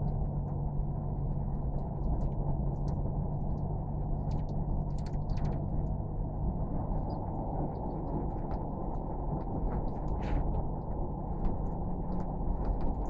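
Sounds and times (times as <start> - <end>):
low rumbling noise: 0.0 - 13.0
faint clicks and ticks: 1.5 - 6.0, 6.9 - 13.0.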